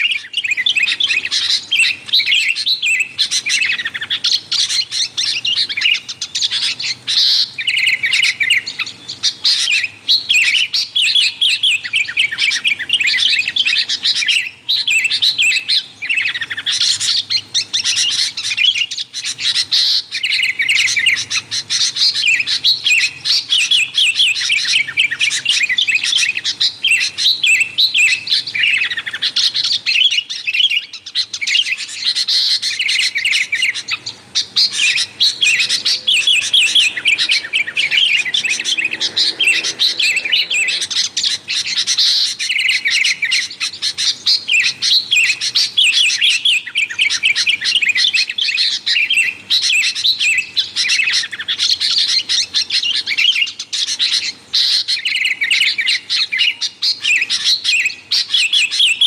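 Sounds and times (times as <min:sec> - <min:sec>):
bulbuls chattering: 0:00.0 - 0:59.0.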